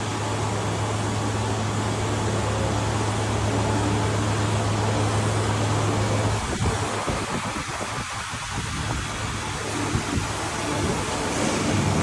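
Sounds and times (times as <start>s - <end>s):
milling machine running: 0.0s - 12.0s.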